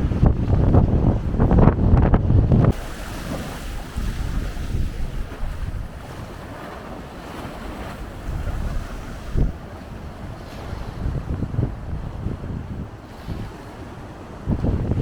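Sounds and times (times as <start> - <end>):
sea surf washing in: 0.0 - 15.0
wind buffeting microphone: 0.0 - 15.0.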